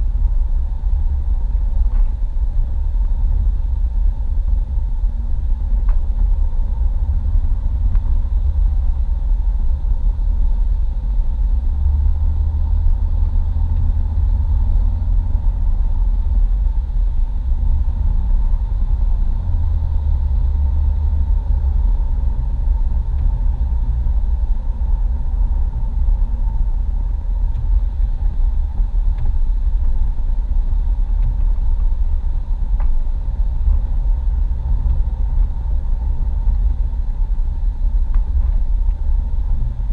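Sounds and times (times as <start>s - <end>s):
car interior engine and road noise: 0.0s - 39.9s.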